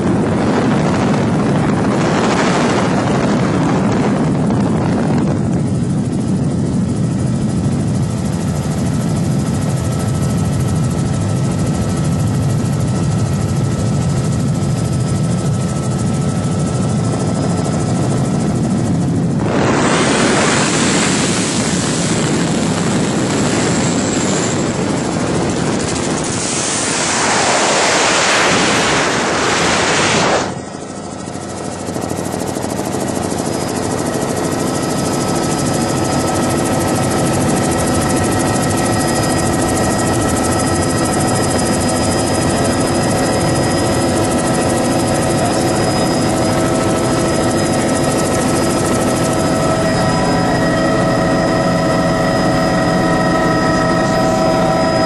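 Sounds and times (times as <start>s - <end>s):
aircraft engine cabin drone: 0.0s - 55.0s
loud wind noise: 0.0s - 55.0s.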